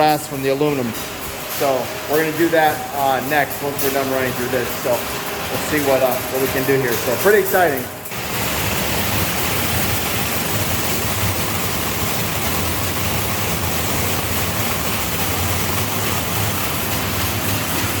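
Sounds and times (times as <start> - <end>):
metal pieces hissing through machine: 0.0 - 18.0
sorting machine humming: 0.0 - 18.0.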